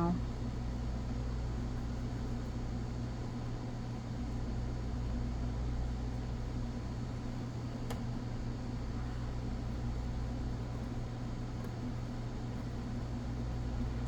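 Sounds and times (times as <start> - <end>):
low hum with faint hiss: 0.0 - 14.0.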